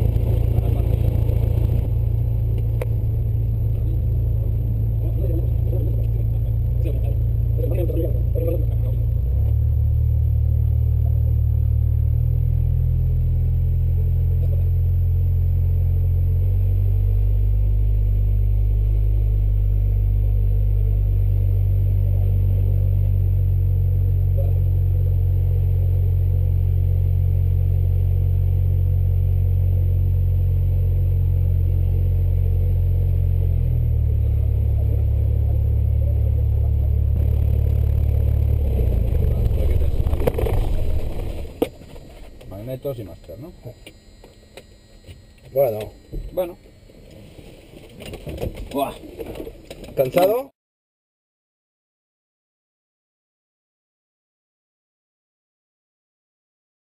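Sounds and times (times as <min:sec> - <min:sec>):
airplane engine droning in cabin: 0:00.0 - 0:50.2.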